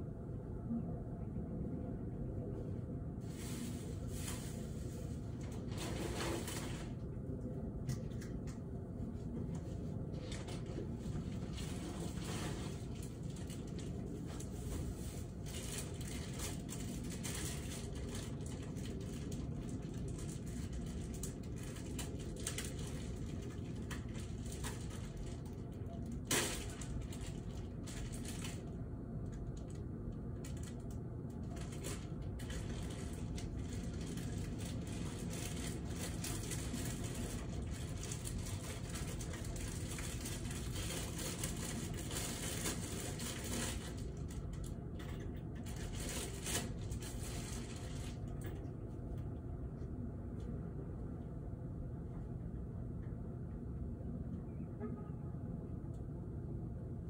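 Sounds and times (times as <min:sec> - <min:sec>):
low ambient hum and hiss: 0:00.0 - 0:57.0.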